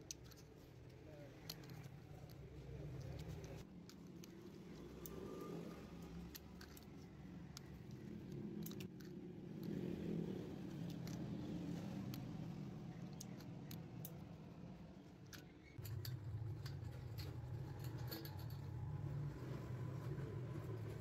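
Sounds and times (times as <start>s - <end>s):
hand tools clicking and scraping: 0.0s - 21.0s.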